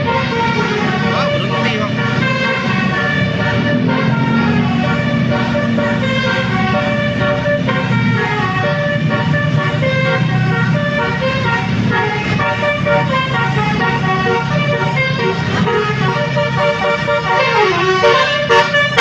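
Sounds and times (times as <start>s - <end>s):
multi-tone musical horn playing: 0.0s - 19.0s
vehicle engine running: 0.0s - 19.0s.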